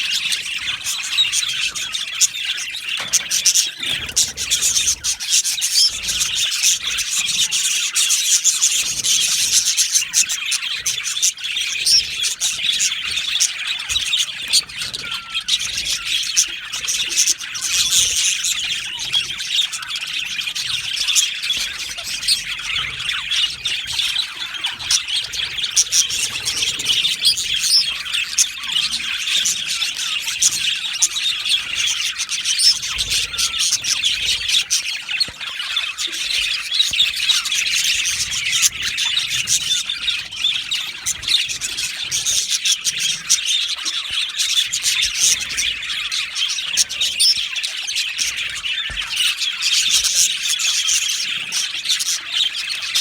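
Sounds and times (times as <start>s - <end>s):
budgerigars chattering and chirping: 0.0s - 53.0s.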